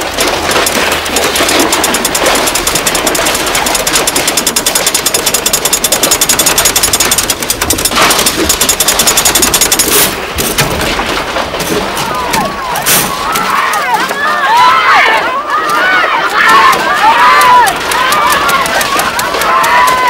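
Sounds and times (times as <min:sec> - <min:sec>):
rapid mechanical rattle: 0:00.0 - 0:14.7, 0:15.6 - 0:20.0.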